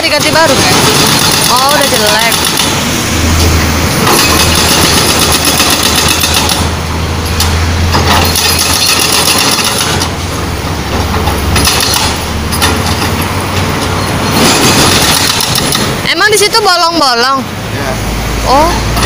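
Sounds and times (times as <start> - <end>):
hydraulic breaker hammering asphalt: 0.0 - 16.6
diesel engine running: 0.0 - 19.0.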